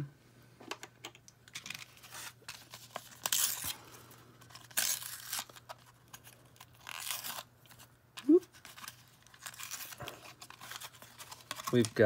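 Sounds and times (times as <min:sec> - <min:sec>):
plastic packaging crinkling and tearing: 0:01.6 - 0:12.0.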